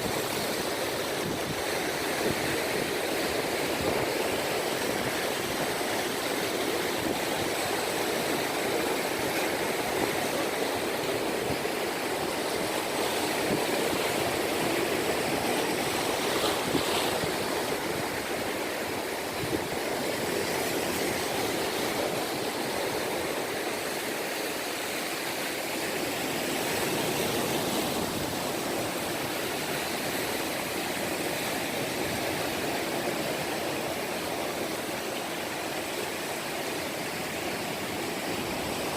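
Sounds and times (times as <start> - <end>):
sea water washing against edge: 0.0 - 38.9.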